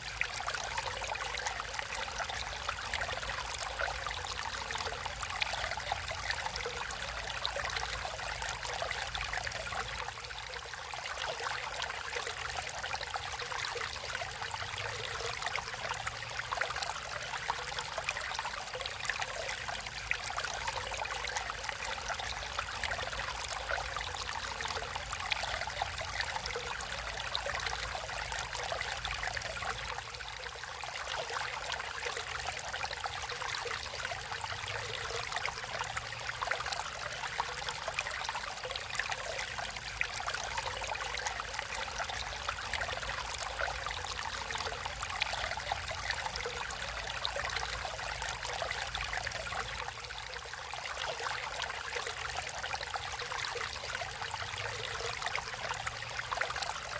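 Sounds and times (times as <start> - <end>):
stream water babbling: 0.0 - 56.9.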